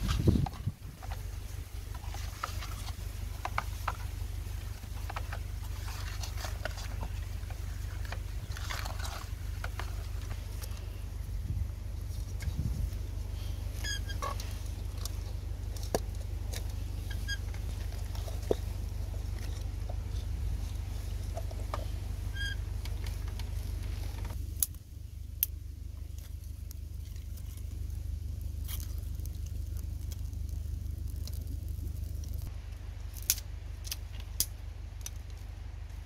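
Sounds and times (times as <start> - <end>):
fire crackling and popping: 0.0 - 36.0
low rumble: 0.0 - 36.0.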